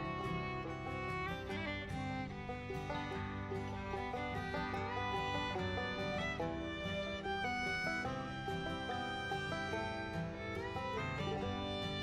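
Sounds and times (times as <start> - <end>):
string instrument music: 0.0 - 12.0.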